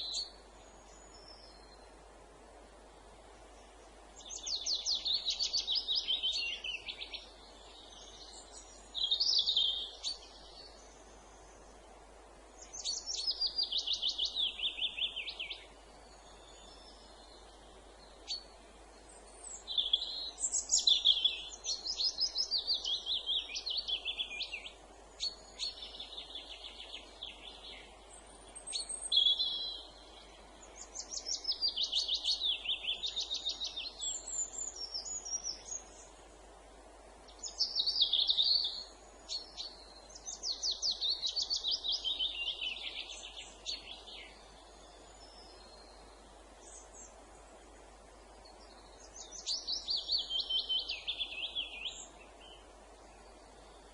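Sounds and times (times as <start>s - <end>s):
faint steady background hiss: 0.0s - 53.9s
songbirds singing: 0.0s - 53.9s.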